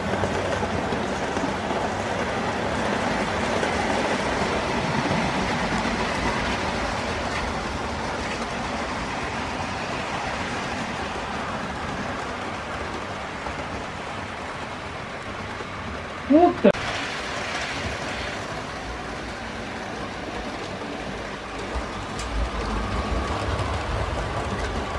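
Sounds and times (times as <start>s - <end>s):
model train wheels rolling: 0.0s - 24.9s.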